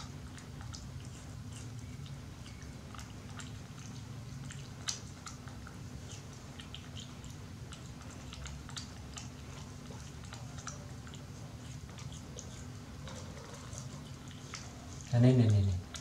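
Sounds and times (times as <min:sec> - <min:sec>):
monkey chewing wet smacking: 0:00.0 - 0:16.0
steady low hum: 0:00.0 - 0:16.0.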